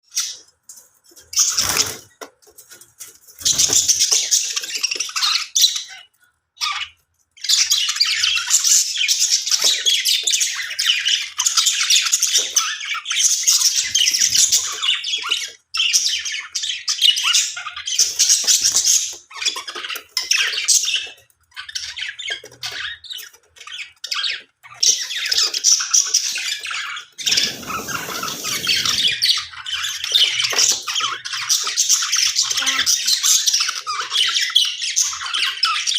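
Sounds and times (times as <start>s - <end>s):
budgerigars chattering and squawking: 3.4s - 35.9s.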